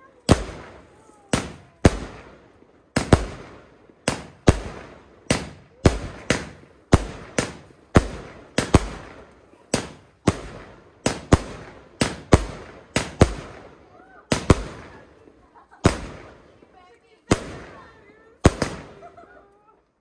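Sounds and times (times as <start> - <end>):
fireworks bangs with echo: 0.0 - 19.2.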